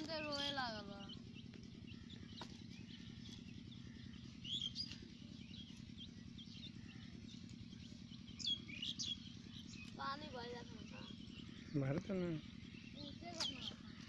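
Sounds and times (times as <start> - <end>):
chicks peeping: 0.0 - 14.0
faint low hum: 0.0 - 14.0.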